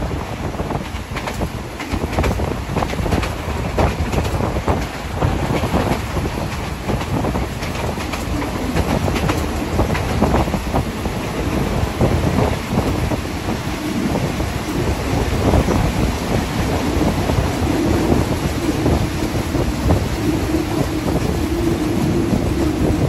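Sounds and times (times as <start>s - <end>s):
train running noise: 0.0s - 23.0s
wheels clacking over rail joints: 0.4s - 23.0s.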